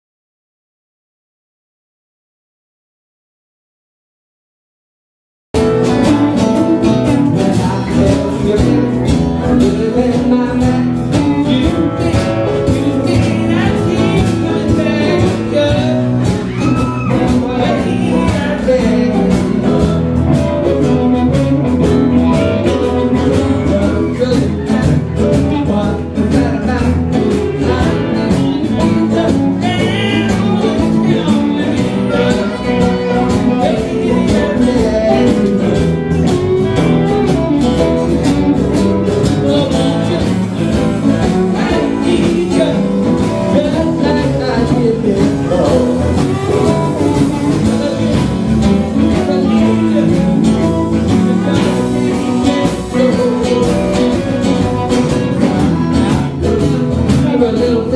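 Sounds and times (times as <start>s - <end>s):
blues band playing: 5.6s - 57.9s
man singing: 5.6s - 57.9s.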